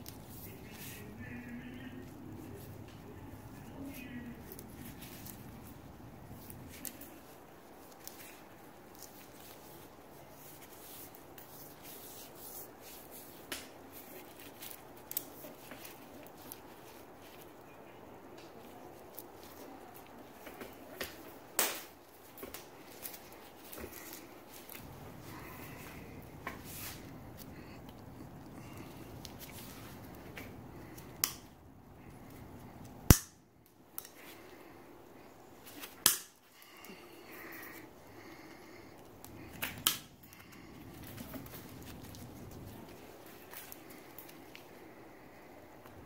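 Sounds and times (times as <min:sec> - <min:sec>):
rustling of gloves and cable: 0:00.0 - 0:46.0.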